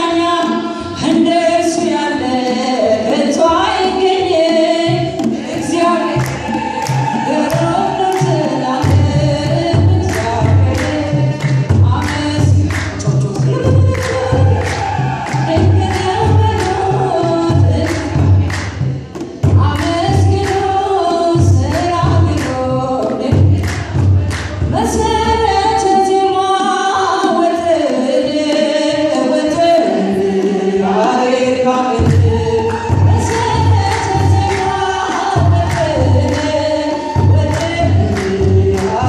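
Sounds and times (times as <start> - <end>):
choir singing: 0.0 - 39.0
woman singing lead: 0.0 - 39.0
large drums beating: 3.3 - 27.6, 31.9 - 39.0.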